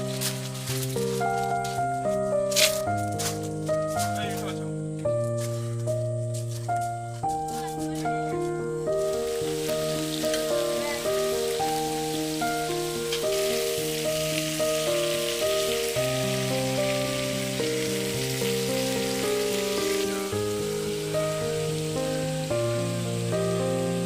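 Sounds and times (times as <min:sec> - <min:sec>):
slow melody over bass line: 0:00.0 - 0:24.0
steady rain hiss: 0:00.0 - 0:24.0.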